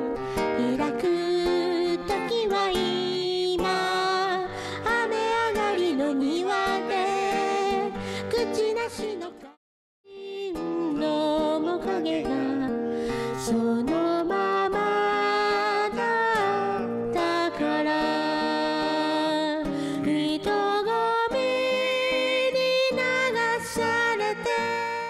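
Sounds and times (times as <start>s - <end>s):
acoustic guitar: 0.0s - 25.0s.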